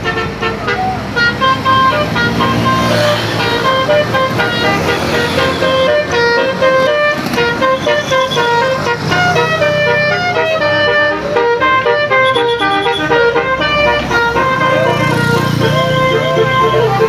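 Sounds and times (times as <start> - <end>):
bus engine running: 0.0 - 17.0
multi-tone bus horn tune: 0.0 - 17.0.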